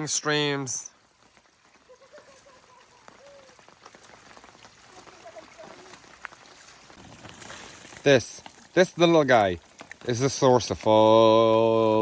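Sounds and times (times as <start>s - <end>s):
rainwater trickling in stream: 0.0s - 12.0s
water drips: 0.0s - 12.0s.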